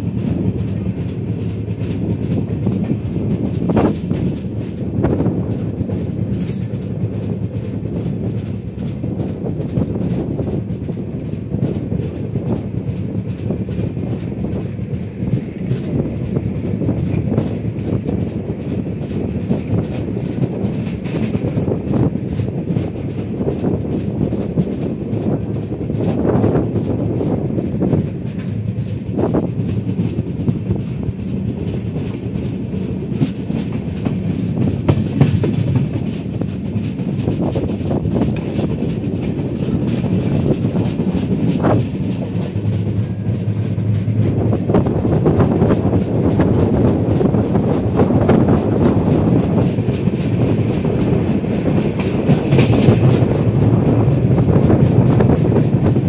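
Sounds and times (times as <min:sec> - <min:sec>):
train wheels rumbling on track: 0:00.0 - 0:56.0
wheels clicking over rail joints: 0:00.0 - 0:56.0.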